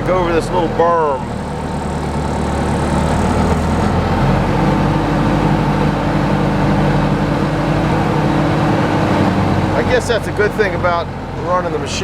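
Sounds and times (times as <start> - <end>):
loader engine running under load: 0.0 - 12.0.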